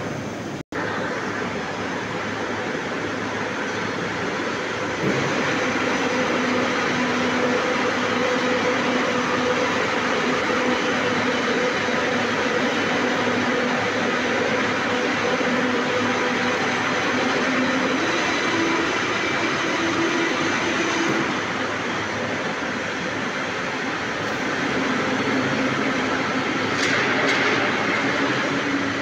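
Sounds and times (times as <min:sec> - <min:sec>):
machine hum: 0:00.0 - 0:29.0
rolling mill mechanical din: 0:00.0 - 0:29.0.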